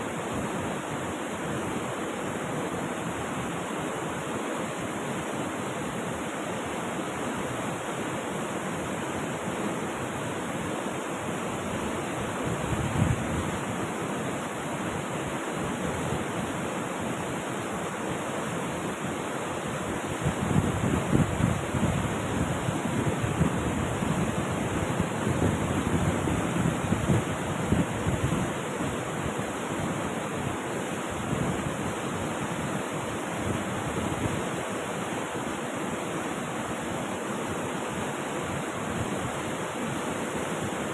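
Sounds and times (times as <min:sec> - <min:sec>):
rushing river water: 0:00.0 - 0:40.9.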